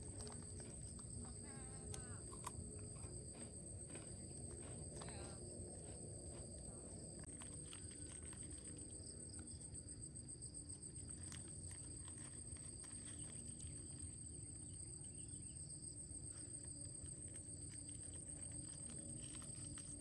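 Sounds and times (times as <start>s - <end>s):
weaker lower insect trill: 0.0s - 20.0s.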